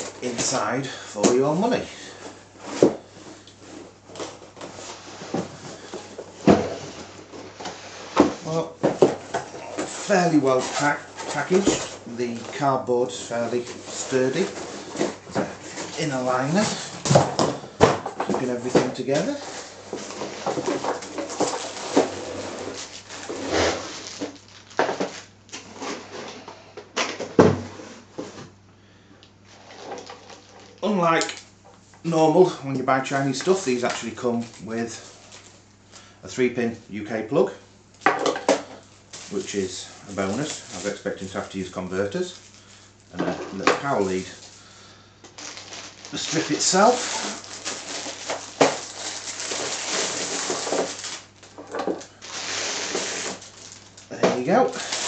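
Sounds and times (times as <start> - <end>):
plastic wrapping rustling: 0.0 - 26.7, 29.5 - 36.2, 38.0 - 55.0.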